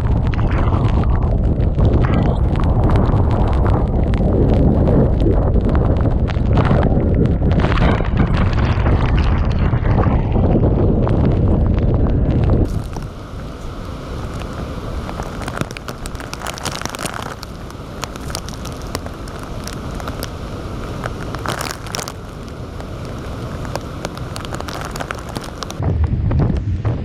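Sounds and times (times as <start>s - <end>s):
heavy rain pattering: 0.0s - 27.0s.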